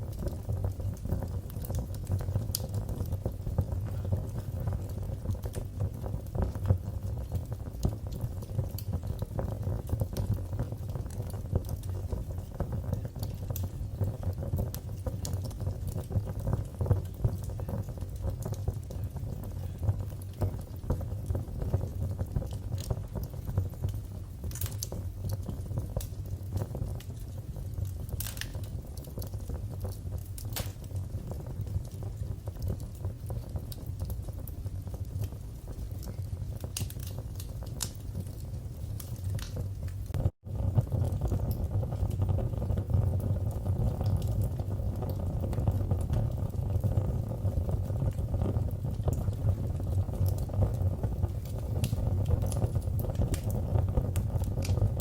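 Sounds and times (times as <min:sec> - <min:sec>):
sharp pops of fire: 0:00.0 - 0:55.0
wood fire crackling: 0:00.0 - 0:55.0.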